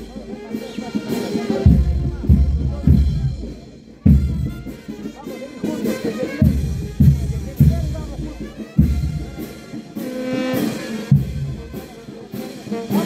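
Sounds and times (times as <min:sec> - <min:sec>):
bass drum strokes: 0:00.0 - 0:05.1, 0:06.3 - 0:12.4
brass band playing march: 0:00.0 - 0:13.0.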